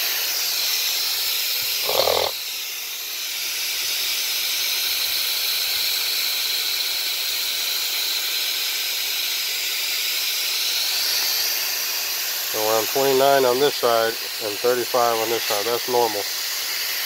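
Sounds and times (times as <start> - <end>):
gas hissing from pipes: 0.0 - 17.0.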